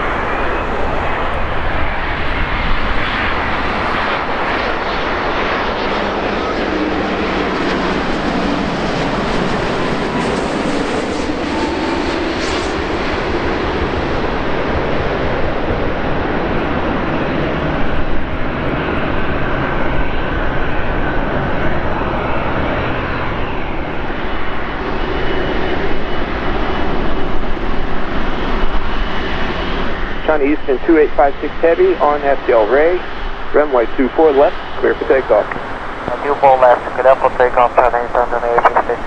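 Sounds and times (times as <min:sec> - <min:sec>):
jet engine rush: 0:00.0 - 0:39.0.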